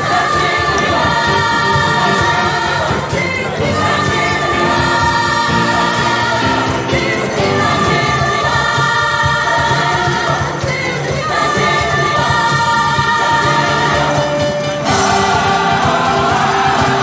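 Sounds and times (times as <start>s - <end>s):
gospel choir singing: 0.0s - 17.0s
steady beat: 0.0s - 17.0s.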